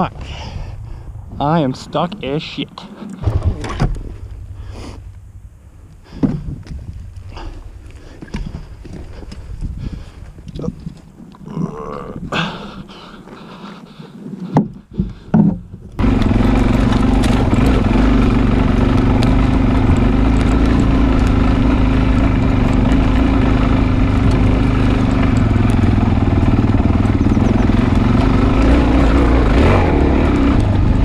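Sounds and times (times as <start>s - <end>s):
dirt bike engine: 0.0s - 12.9s, 15.4s - 31.0s.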